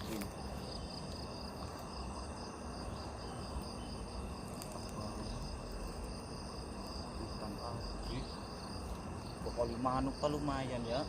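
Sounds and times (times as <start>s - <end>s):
high-pitched insect trills: 0.0s - 11.0s.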